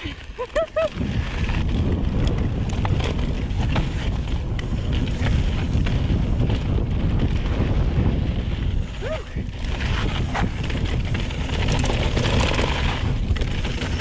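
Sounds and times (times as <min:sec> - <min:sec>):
bike clicks and rattles: 0:00.0 - 0:14.0
tyres rumbling over dirt trail: 0:00.0 - 0:14.0
wind buffeting microphone: 0:00.0 - 0:14.0.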